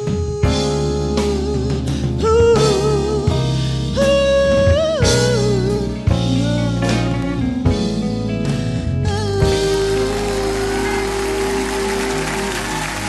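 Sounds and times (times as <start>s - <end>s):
soul band playing: 0.0s - 13.0s.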